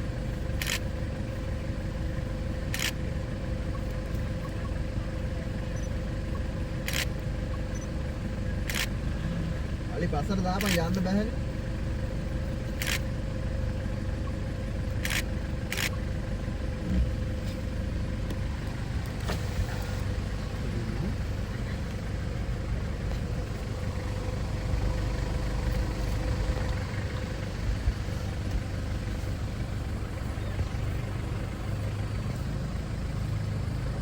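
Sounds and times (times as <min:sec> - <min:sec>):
jeep engine idling: 0:00.0 - 0:34.0.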